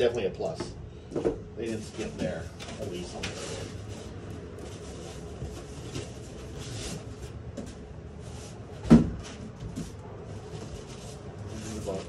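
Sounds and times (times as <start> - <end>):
cardboard rustling and scraping: 1.7 - 12.0.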